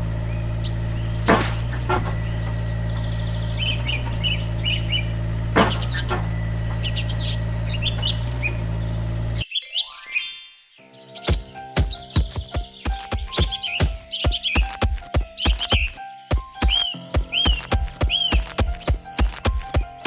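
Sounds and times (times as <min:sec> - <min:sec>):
birds chirping: 0:00.0 - 0:09.4, 0:11.2 - 0:20.0
small engine running: 0:00.0 - 0:09.4, 0:11.3 - 0:20.0.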